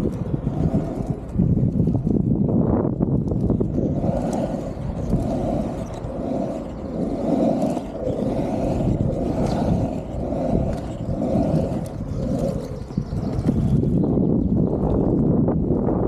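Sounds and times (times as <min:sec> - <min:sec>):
skateboard wheels rolling on asphalt: 0:00.0 - 0:16.0.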